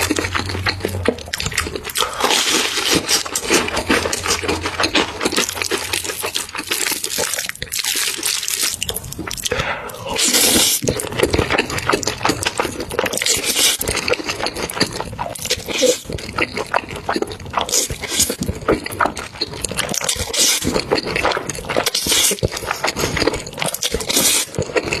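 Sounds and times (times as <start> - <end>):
slurps: 0.0 - 25.0
wet chewing: 0.0 - 25.0.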